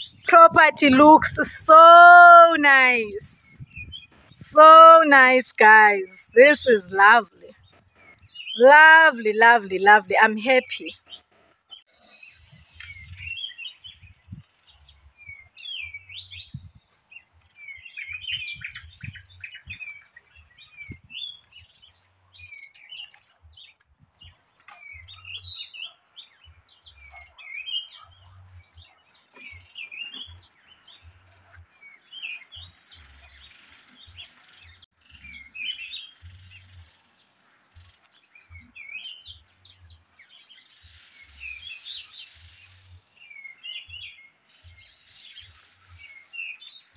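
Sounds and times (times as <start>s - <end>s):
small birds chirping: 0.0s - 1.3s, 2.3s - 4.4s, 5.0s - 46.9s.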